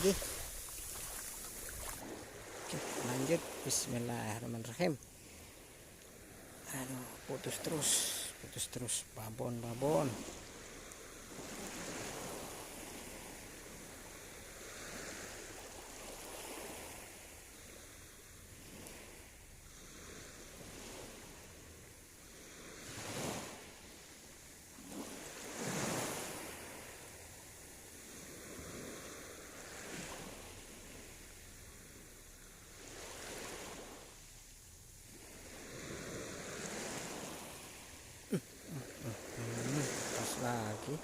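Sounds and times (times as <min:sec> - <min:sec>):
small waves washing on shore: 0:00.0 - 0:41.0.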